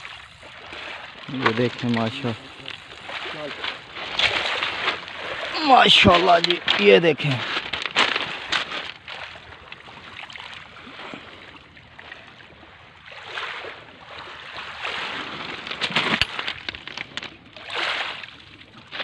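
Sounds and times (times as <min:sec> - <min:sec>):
shallow water splashing: 0:00.0 - 0:19.0.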